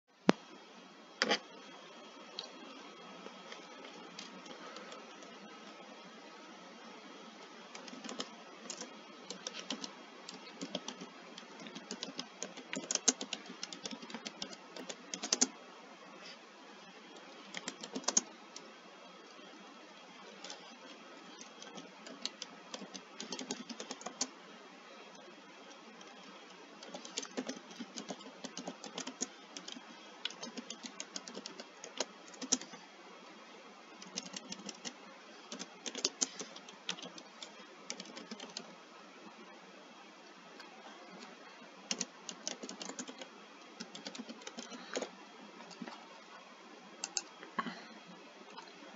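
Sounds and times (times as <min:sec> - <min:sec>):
faint steady hiss: 0:00.1 - 0:48.9.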